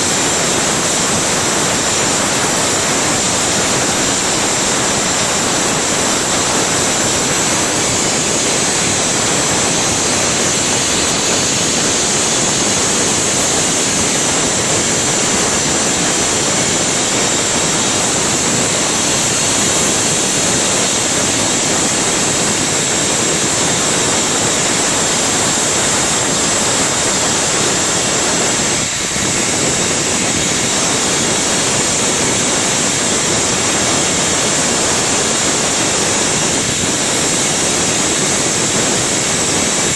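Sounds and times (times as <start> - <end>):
burner flame hissing: 0.0 - 39.9.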